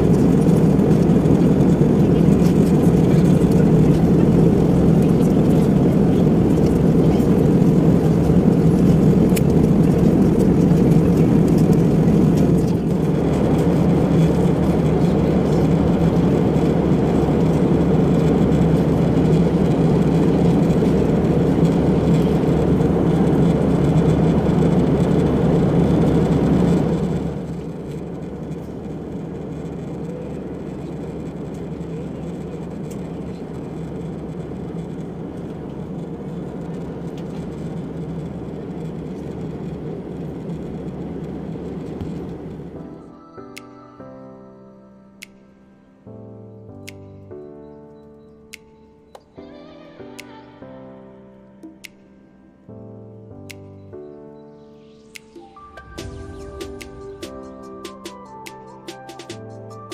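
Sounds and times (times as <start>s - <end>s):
jet engine drone in cabin: 0.0s - 50.9s, 51.6s - 59.9s.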